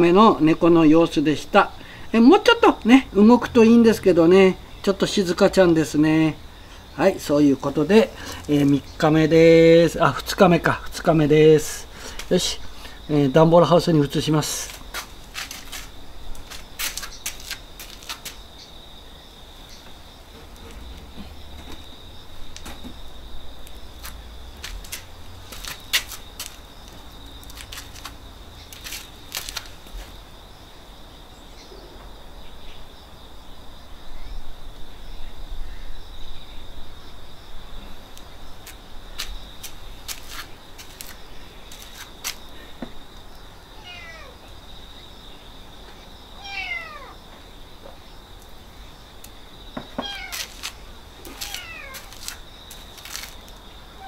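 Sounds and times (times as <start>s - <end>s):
high insect trill: 0.0s - 54.0s.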